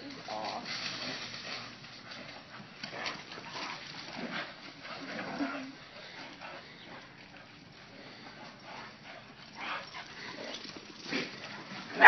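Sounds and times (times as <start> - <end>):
dogs playing and scuffling: 0.0 - 12.0.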